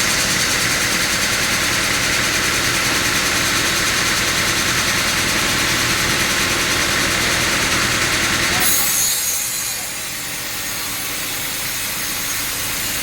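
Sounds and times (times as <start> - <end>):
sawmill machinery drone: 0.0 - 13.0.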